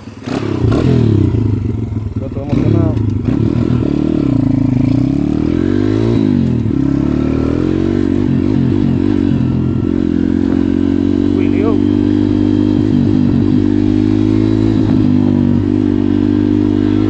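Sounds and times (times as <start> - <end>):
pit bike engine revving: 0.0 - 17.0.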